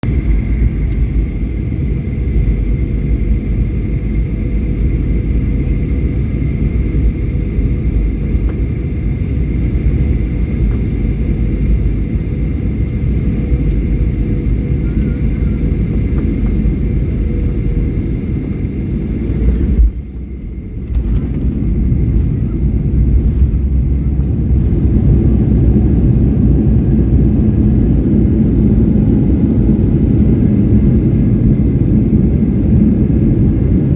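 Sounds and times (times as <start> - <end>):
faint jet engine whine: 0.0 - 33.9
jet engine rumble: 0.0 - 33.9.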